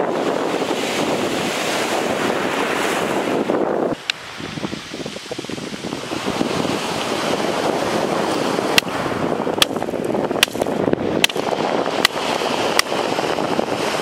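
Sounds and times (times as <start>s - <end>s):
surf: 0.0s - 14.0s
wind on microphone: 0.0s - 14.0s.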